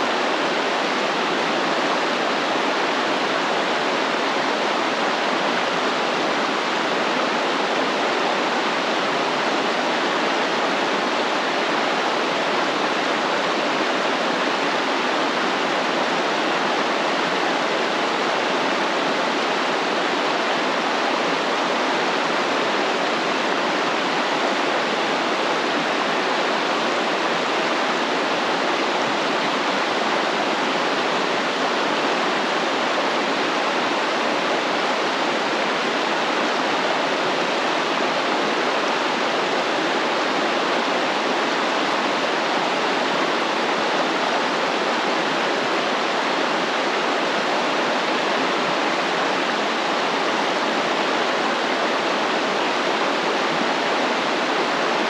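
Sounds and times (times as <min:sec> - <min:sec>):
stream of water flowing: 0:00.0 - 0:55.0.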